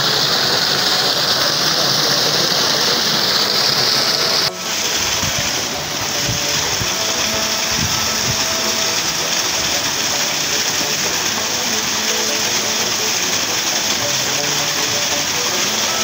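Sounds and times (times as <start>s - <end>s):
water gushing onto rocks: 0.0s - 16.0s.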